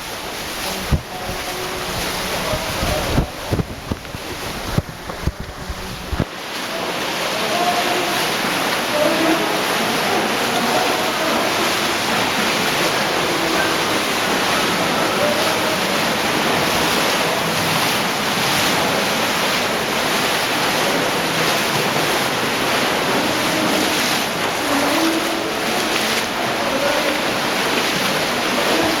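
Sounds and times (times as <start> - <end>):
cave stream rushing: 0.0 - 29.0.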